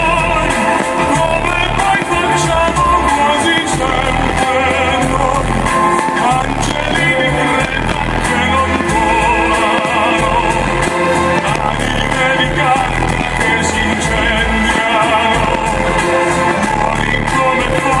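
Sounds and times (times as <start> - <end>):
show music with singer: 0.0 - 18.0.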